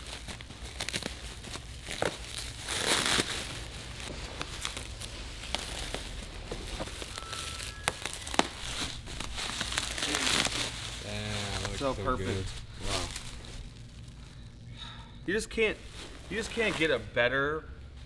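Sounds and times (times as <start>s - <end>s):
bubble wrap crinkling: 0.0s - 14.6s, 15.6s - 17.0s.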